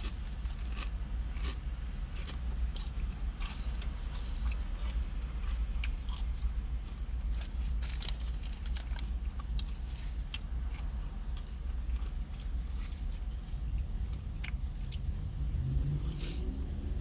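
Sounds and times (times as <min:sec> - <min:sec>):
person chewing: 0:00.0 - 0:15.1
low hum: 0:00.0 - 0:17.0.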